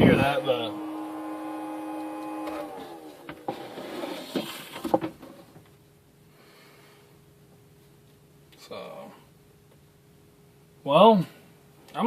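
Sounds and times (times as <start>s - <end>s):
small cooling fan whining: 0.0s - 12.0s.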